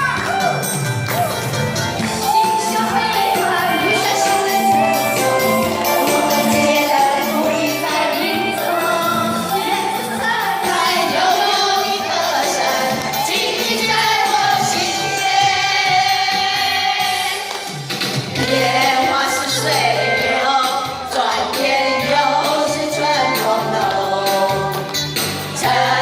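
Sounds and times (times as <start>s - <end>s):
instrumental accompaniment with bass: 0.0s - 17.0s, 17.7s - 26.0s
choir singing: 2.2s - 17.5s, 18.3s - 24.9s, 25.5s - 26.0s.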